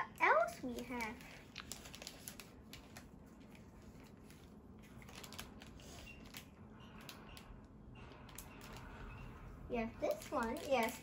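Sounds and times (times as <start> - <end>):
plastic bag rustling: 0.2 - 11.0.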